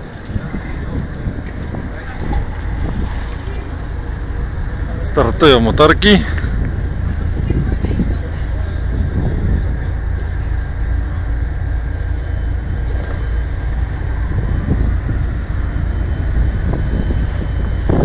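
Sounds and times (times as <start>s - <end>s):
outboard motors running: 0.0s - 18.0s.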